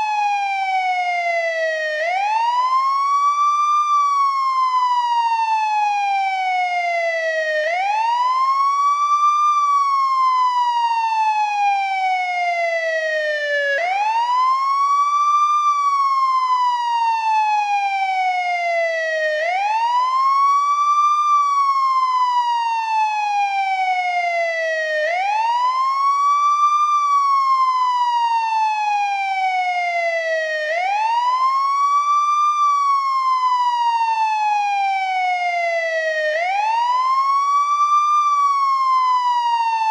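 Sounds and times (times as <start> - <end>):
ambulance wail siren: 0.0 - 39.9.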